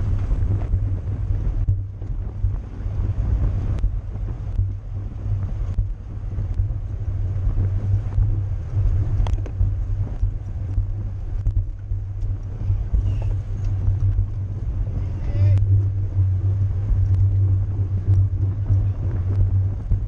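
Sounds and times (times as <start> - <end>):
wind rushing over microphone: 0.0 - 20.0
faint ticks: 3.7 - 20.0.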